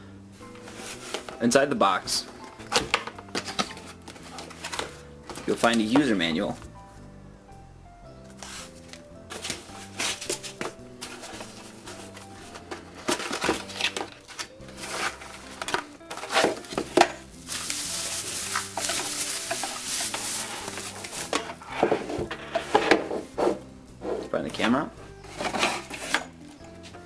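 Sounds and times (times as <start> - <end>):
soft background music: 0.0 - 27.0
packaging rustling and clicking: 0.4 - 1.5, 2.2 - 6.0, 8.3 - 23.6, 24.6 - 27.0.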